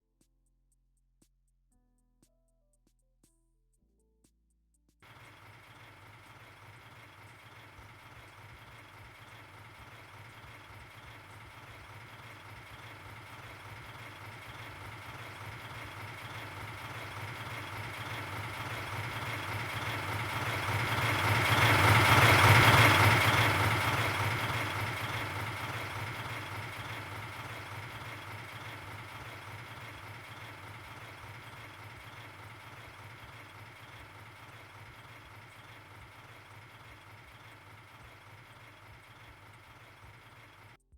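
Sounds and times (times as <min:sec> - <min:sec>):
diesel locomotive passing: 0:05.1 - 0:40.7.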